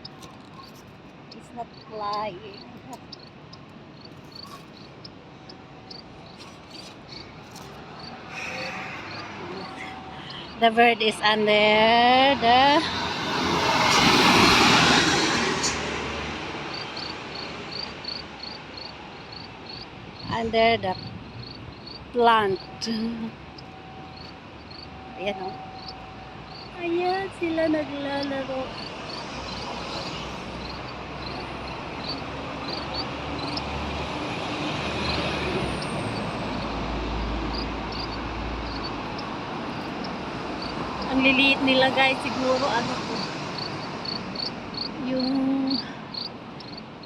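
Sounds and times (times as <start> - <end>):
cricket chirping: 0.0 - 47.0
road traffic noise: 0.0 - 47.0
vehicle passing: 0.0 - 47.0.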